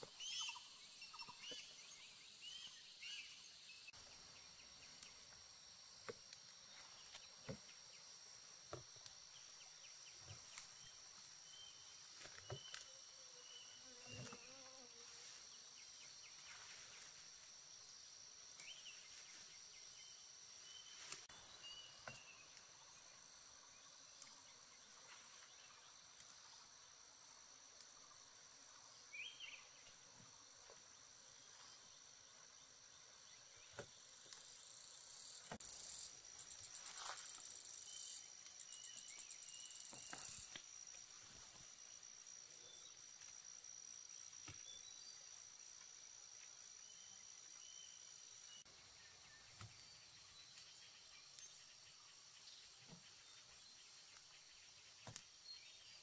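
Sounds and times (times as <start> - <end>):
insect pulsing buzz: 0.0 - 21.4, 22.0 - 56.0
insects trilling: 0.0 - 56.0.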